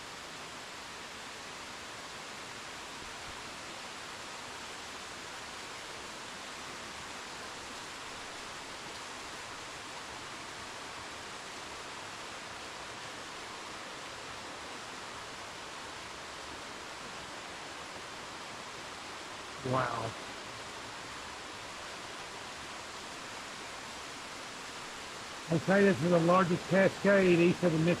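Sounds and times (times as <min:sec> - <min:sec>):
waterfall rushing: 0:00.1 - 0:28.0.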